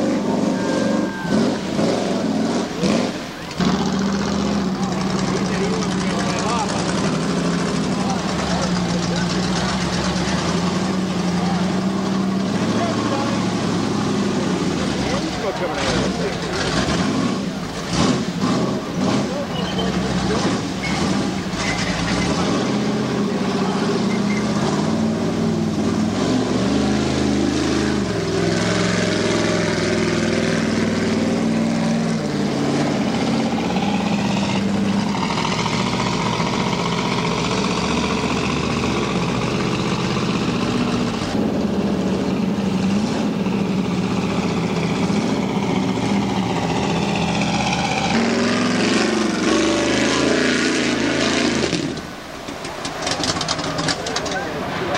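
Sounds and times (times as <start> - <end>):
truck engine revving: 0.0 - 54.9.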